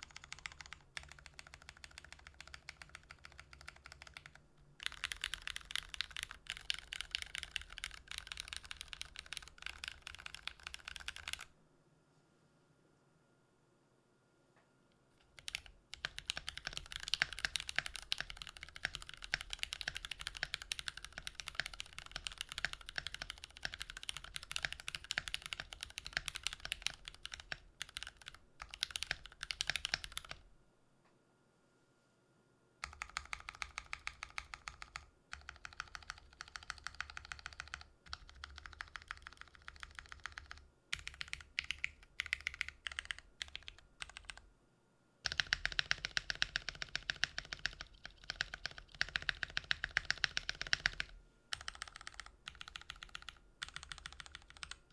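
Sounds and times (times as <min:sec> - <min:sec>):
fast typing on keyboard: 0:00.0 - 0:11.5, 0:15.2 - 0:30.4, 0:32.8 - 0:44.4, 0:45.2 - 0:54.9.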